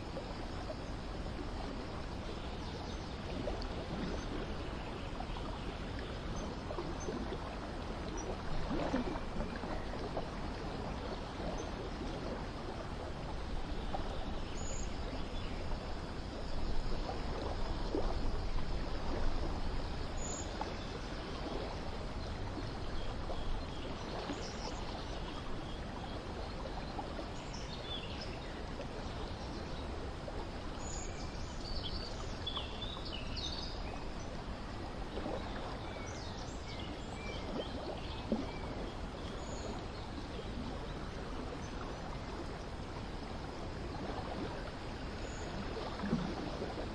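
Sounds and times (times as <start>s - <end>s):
running water: 0.0s - 46.9s.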